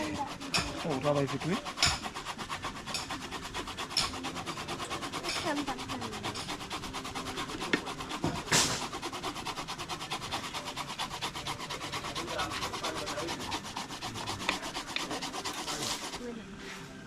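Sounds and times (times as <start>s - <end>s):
fast scraping strokes: 0.0s - 16.9s.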